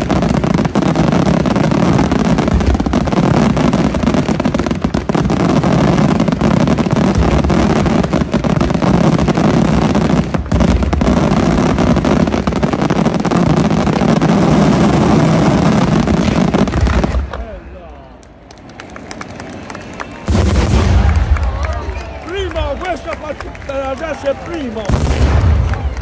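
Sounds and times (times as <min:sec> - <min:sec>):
fireworks barrage rumbling: 0:00.0 - 0:26.0.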